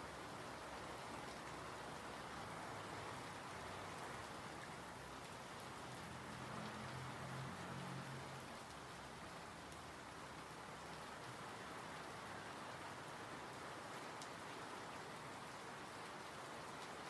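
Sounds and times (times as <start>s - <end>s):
rain pattering on surfaces: 0.0s - 17.0s.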